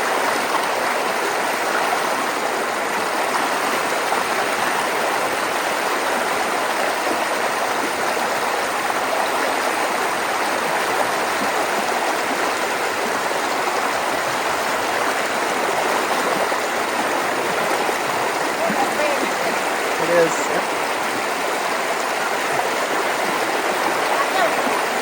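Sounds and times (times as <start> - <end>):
floodwater rushing through culvert: 0.0 - 25.0.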